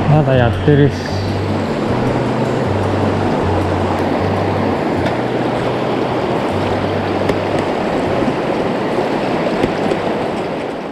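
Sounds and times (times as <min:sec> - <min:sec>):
river water rushing: 0:00.0 - 0:10.9.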